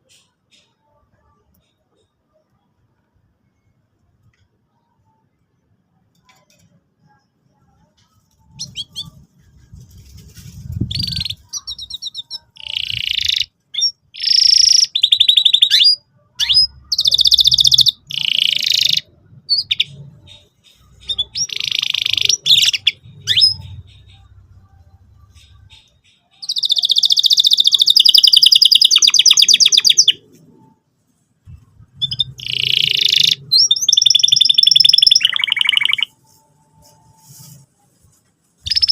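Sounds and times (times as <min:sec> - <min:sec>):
canary singing chirps and trills: 0:00.0 - 0:38.9.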